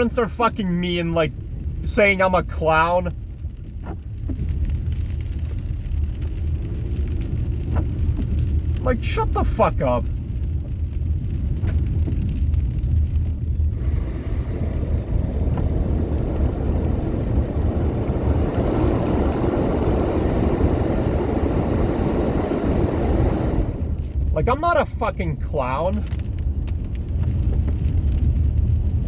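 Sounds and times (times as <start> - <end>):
rain hissing on car: 0.0 - 29.0
road and engine rumble: 0.0 - 29.0.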